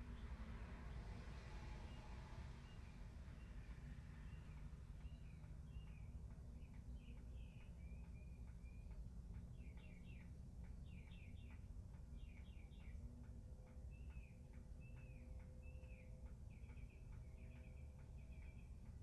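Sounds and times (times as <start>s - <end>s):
birds chirping faintly: 0.0s - 19.0s
steady low rumble: 0.0s - 19.0s.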